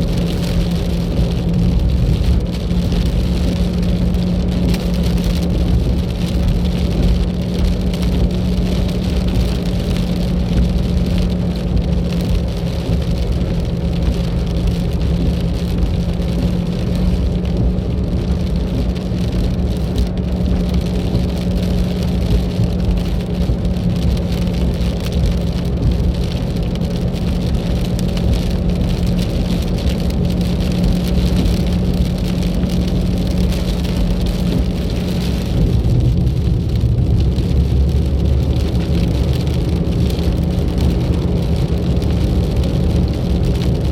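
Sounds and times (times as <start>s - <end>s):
car engine drone: 0.0s - 43.9s
deep rumble: 0.0s - 43.9s
tyre and road noise: 0.0s - 43.9s.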